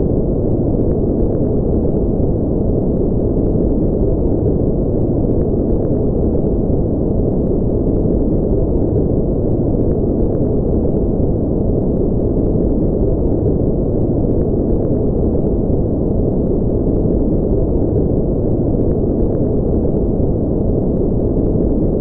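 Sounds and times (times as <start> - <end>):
deep muffled white noise: 0.0 - 22.0.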